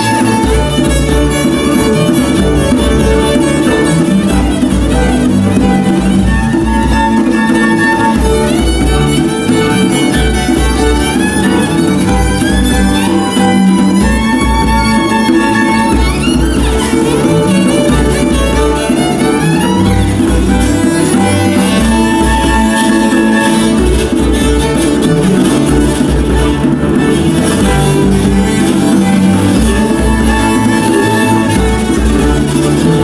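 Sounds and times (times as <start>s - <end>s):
bowed double bass: 0.0s - 33.0s
bowed low string instrument: 0.0s - 33.0s
fiddle melody: 0.0s - 33.0s
hand drum beat: 0.0s - 33.0s.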